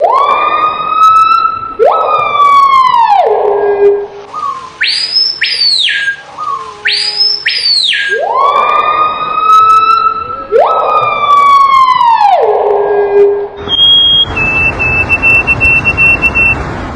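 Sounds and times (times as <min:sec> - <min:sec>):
siren-like wailing: 0:00.0 - 0:16.6.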